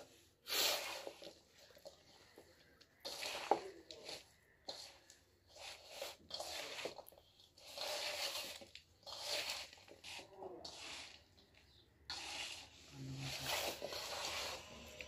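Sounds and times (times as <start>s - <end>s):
hands mixing food in steel bowl: 0.0s - 15.0s.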